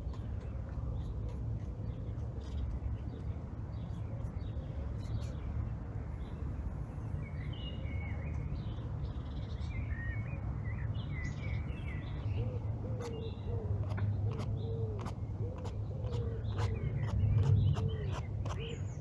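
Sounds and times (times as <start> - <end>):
small birds chirping and twittering: 0.0 - 19.0.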